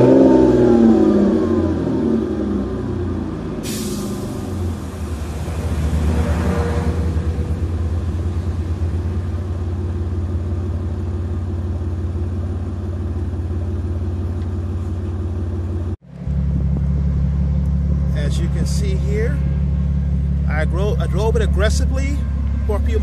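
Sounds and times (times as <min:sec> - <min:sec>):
car engine idling: 0:00.8 - 0:23.0.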